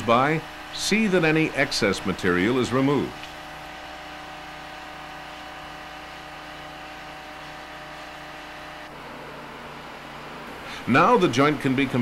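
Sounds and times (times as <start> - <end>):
paving machinery engines droning: 0.0 - 12.0.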